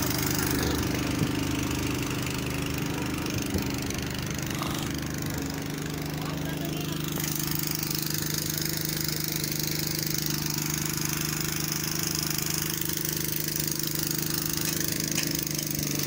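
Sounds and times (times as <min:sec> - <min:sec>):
crane diesel engine humming: 0:00.0 - 0:16.0.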